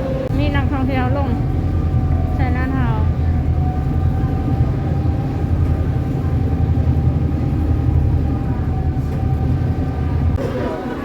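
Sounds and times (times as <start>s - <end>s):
ferry low rumble: 0.0s - 11.0s.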